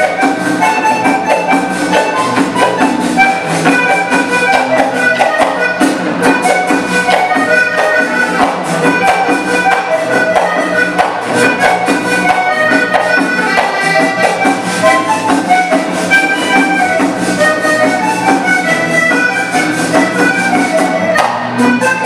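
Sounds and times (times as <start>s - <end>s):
folk music ensemble: 0.0s - 22.0s.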